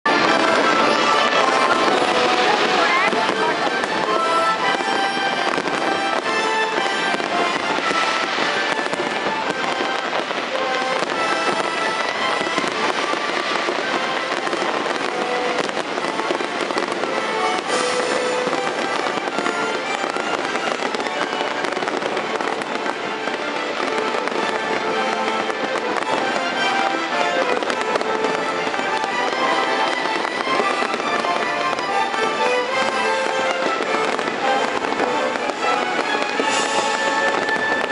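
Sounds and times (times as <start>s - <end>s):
fireworks crackling and popping: 0.0s - 37.9s
music playing: 0.1s - 37.9s.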